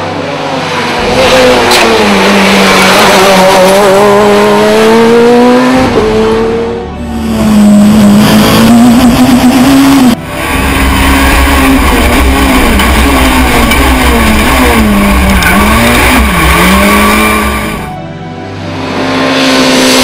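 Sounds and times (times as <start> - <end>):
rally car engine at high revs: 0.0 - 17.9, 18.7 - 20.0.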